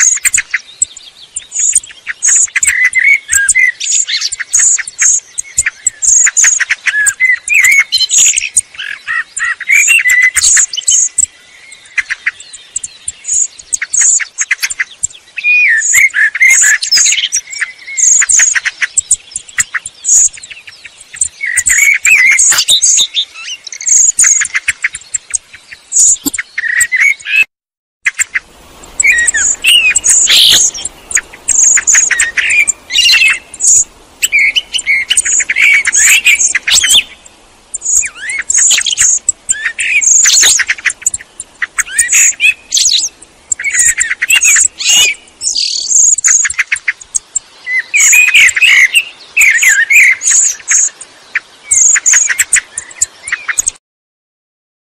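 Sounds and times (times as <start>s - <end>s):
blackbird singing: 0.0s - 27.5s, 28.1s - 53.8s.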